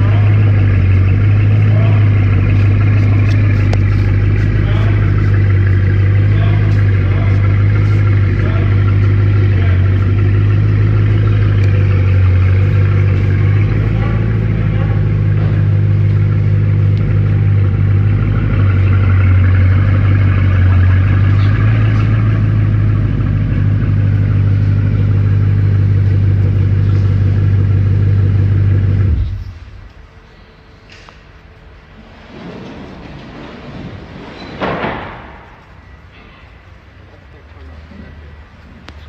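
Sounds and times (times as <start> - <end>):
car engine idling: 0.0 - 32.2, 34.8 - 39.0.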